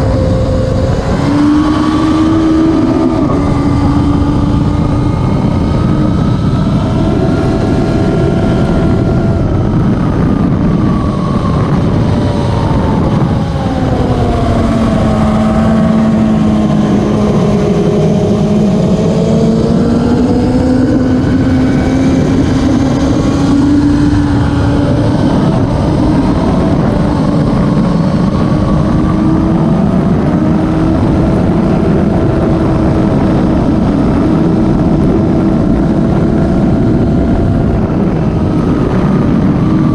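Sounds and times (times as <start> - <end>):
racing motorcycle engines: 0.0 - 39.9.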